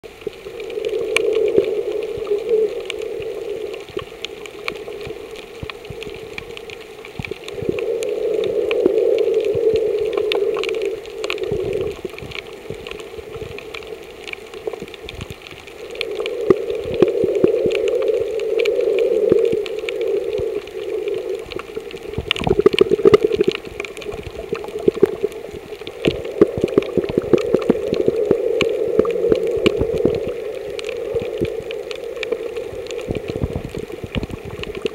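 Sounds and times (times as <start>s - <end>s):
crackling clicks underwater: 0.0s - 34.9s
muffled underwater rushing: 0.0s - 34.9s.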